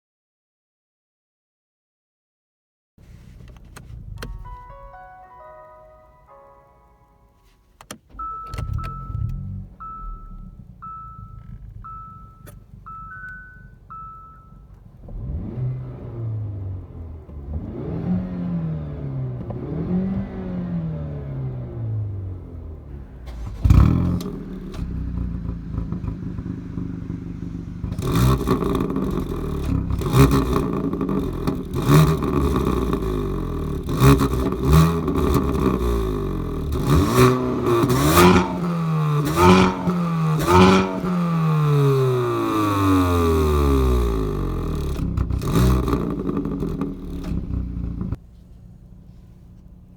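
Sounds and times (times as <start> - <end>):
exhaust cracks: 3.0 - 5.1, 7.3 - 49.9
turbocharged car engine revving: 8.1 - 48.2.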